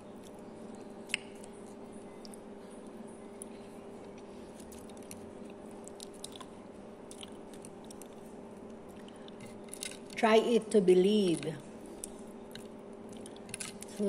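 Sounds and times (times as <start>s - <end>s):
person chewing soft food: 0.0s - 10.1s, 11.8s - 14.0s
low steady hum: 0.0s - 14.0s.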